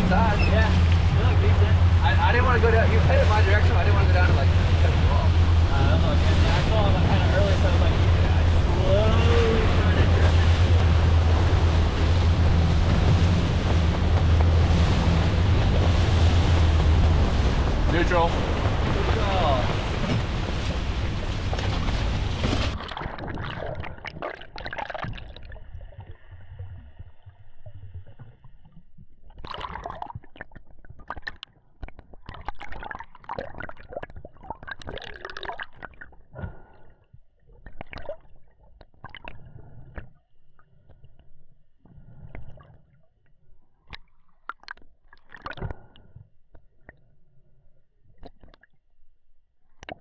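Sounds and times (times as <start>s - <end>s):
underwater gurgling and sloshing: 0.0s - 50.0s
water swishes and clicks: 0.0s - 50.0s.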